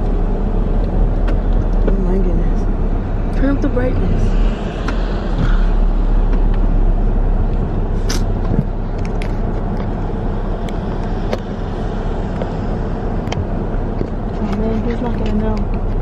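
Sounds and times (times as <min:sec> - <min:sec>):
car cabin engine rumble: 0:00.0 - 0:16.0.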